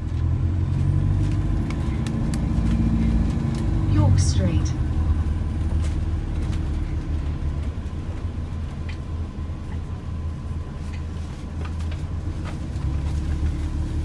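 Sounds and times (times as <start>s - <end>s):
bus rumble: 0.0s - 14.0s.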